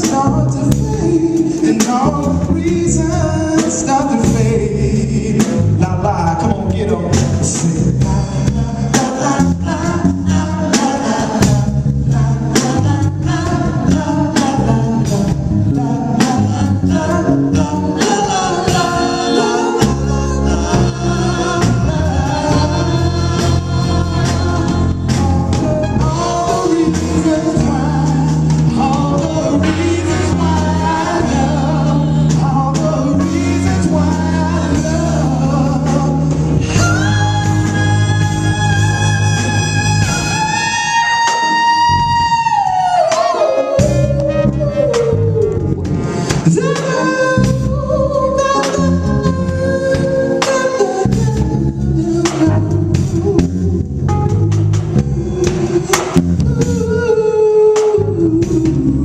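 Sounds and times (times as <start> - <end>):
band music with singing: 0.0 - 59.0.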